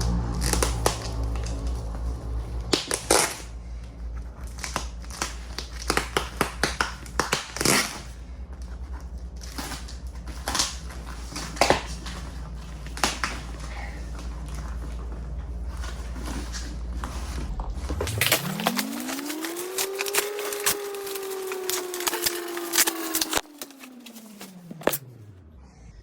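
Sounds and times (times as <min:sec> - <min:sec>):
plastic packaging crinkling: 0:00.0 - 0:25.0
steady low hum: 0:00.0 - 0:26.0.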